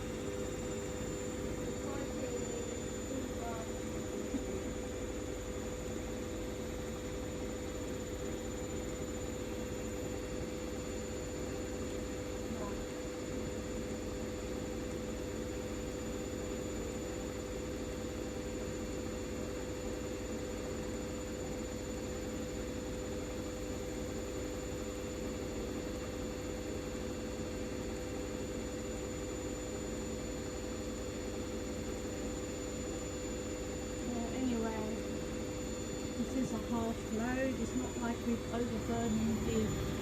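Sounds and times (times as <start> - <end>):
washing machine spin cycle: 0.0 - 40.0.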